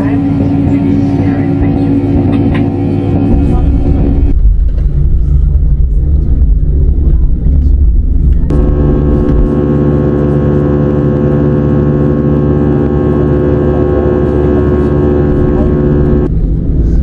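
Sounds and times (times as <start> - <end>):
airliner cabin drone: 0.0 - 17.0
low rumble: 0.0 - 17.0.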